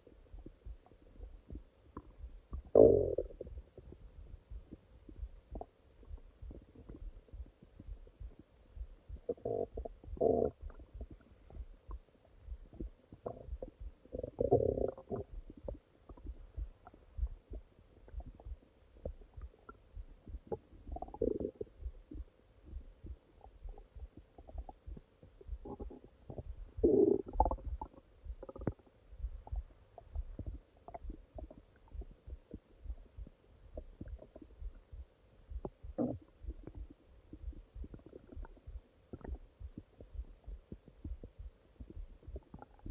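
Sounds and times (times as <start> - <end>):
stomach growling and gurgling: 0.0 - 8.4, 9.1 - 34.7, 35.5 - 42.9.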